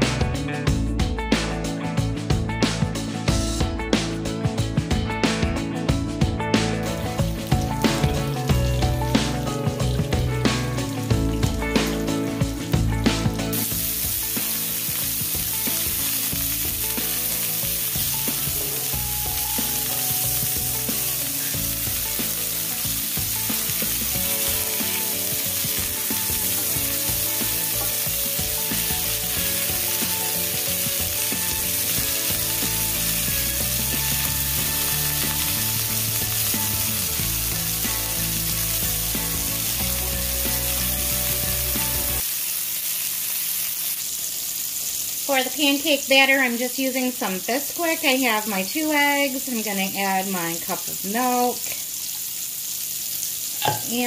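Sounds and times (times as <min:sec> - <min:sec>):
sausage sizzling in oil: 0:06.6 - 0:54.0.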